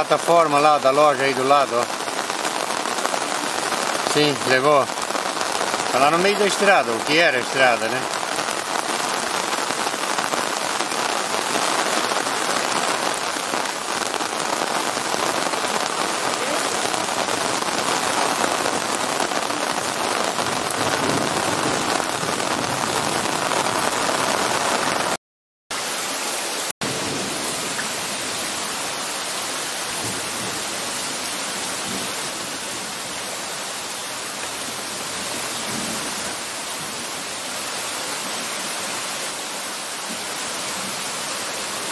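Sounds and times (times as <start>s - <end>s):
torrential rain on a flooded street: 0.0s - 25.2s, 25.8s - 41.9s.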